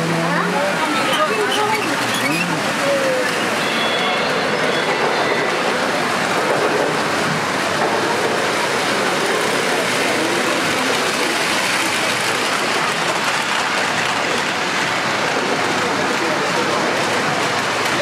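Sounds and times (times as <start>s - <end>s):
model subway train running: 0.0s - 18.0s.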